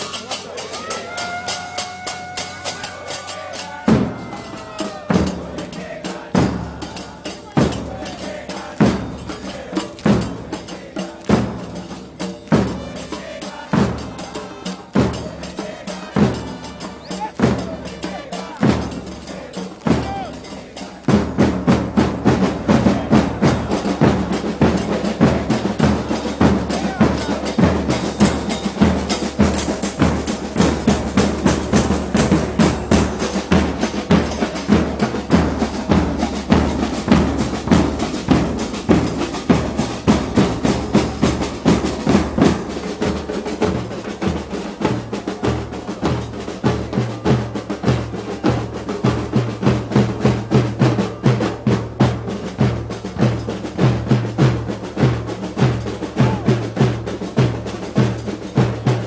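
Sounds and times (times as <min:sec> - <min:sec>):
cymbal struck on beat: 0:00.0 - 0:48.0
marching drum band: 0:00.0 - 0:59.0.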